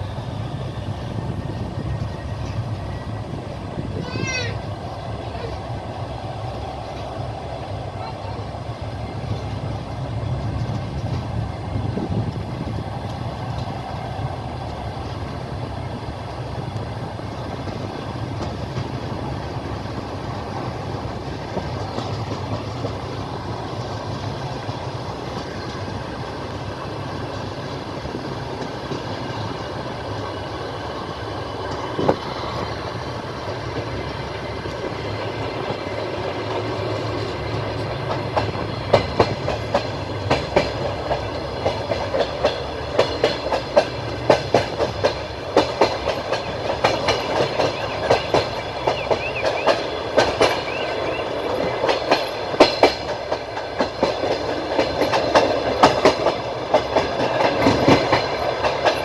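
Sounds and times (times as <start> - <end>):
train wheels clattering: 0.0 - 59.0.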